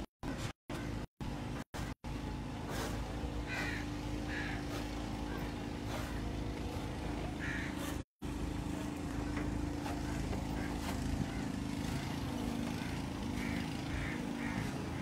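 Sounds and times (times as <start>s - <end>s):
low motor-like hum: 0.0s - 15.0s.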